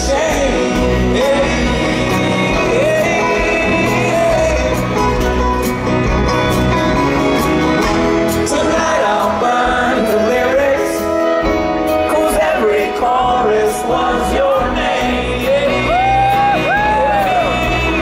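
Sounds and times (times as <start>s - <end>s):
person singing: 0.0s - 5.7s, 8.1s - 18.0s
acoustic guitar: 0.0s - 18.0s
banjo: 0.0s - 18.0s
upright bass: 0.0s - 18.0s.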